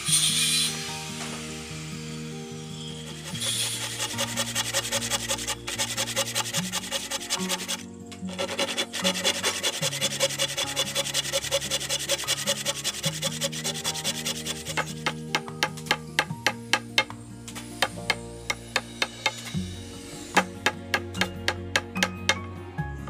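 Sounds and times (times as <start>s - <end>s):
background music: 0.0s - 23.0s
blade scraping wood: 2.9s - 19.5s, 20.2s - 22.2s.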